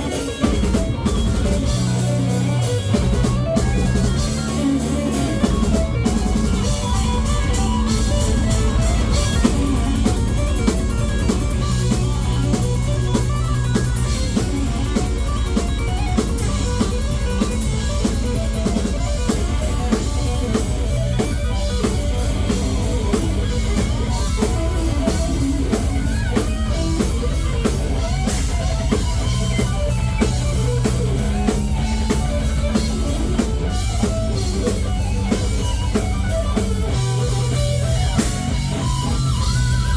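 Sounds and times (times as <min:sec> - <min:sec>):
driving drum-kit beat: 0:00.0 - 0:39.9
electric guitars: 0:00.0 - 0:39.9.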